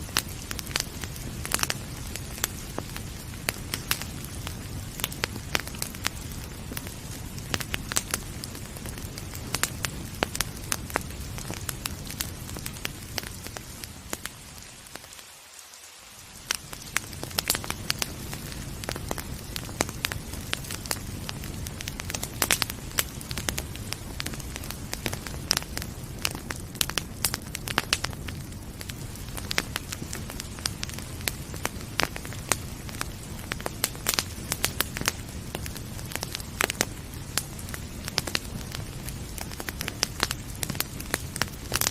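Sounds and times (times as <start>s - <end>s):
rain rushing: 0.0s - 41.9s
wood fire crackling and popping: 0.0s - 41.9s.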